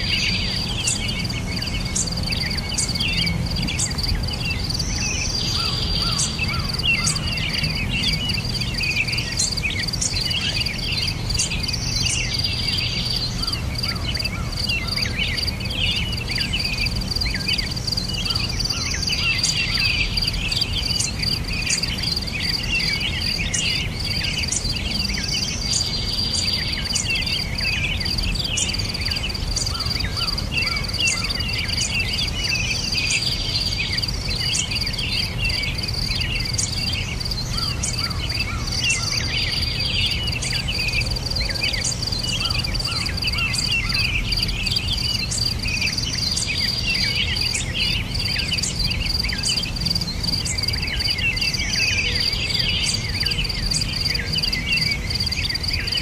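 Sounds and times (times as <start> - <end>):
bird chirps: 0.0 - 56.0
insect trill: 0.0 - 56.0.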